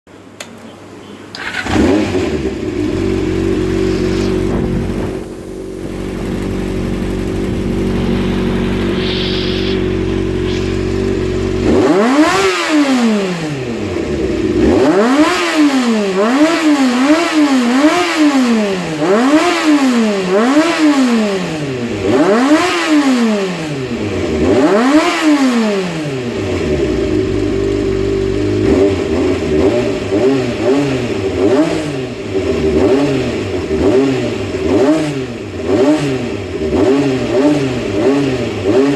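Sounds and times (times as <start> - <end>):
motorcycle engine revving and idling: 1.3 - 38.9.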